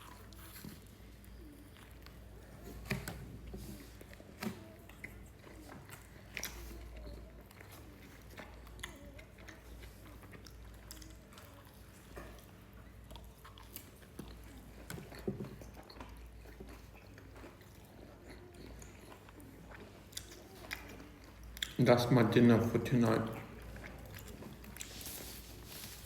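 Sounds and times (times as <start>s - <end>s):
chewing and biting food: 0.0s - 22.0s, 23.2s - 26.0s
low room hum: 0.0s - 26.0s.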